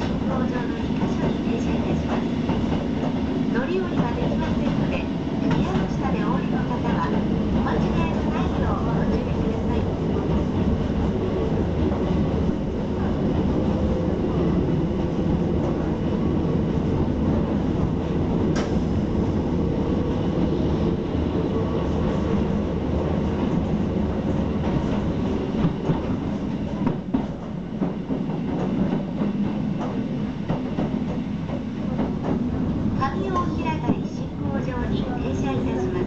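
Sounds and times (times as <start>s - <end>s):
electric train rumble and hum: 0.0s - 36.0s.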